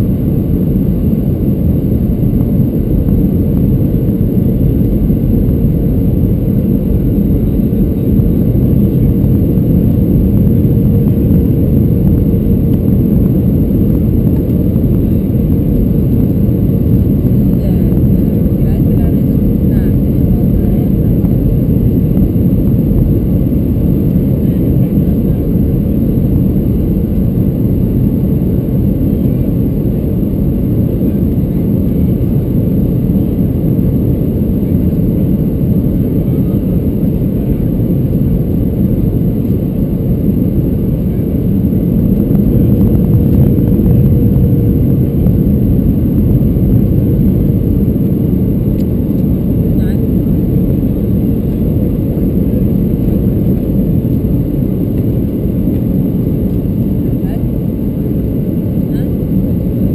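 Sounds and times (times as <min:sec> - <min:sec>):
airflow: 0:00.0 - 0:59.9
jet engines roaring: 0:00.0 - 0:59.9.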